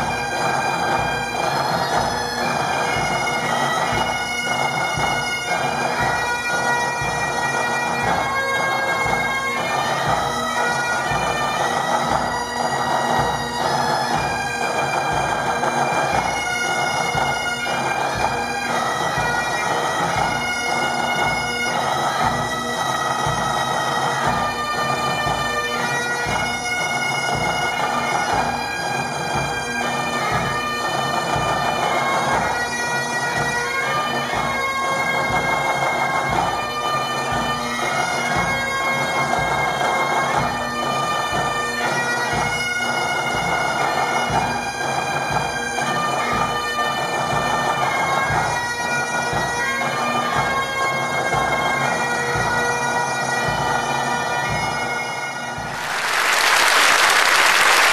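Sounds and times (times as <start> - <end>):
bagpipes playing: 0.0 - 57.9.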